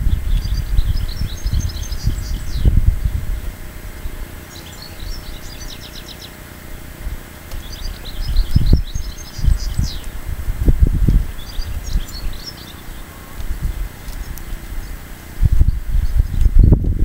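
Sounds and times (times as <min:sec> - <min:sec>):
low rumble: 0:00.0 - 0:17.0
songbird chirping: 0:00.0 - 0:17.0.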